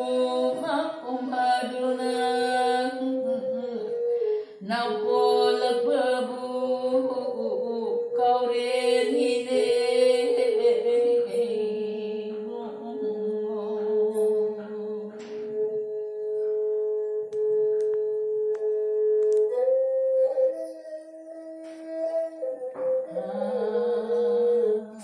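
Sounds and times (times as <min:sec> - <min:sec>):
woman singing: 0:00.0 - 0:25.0.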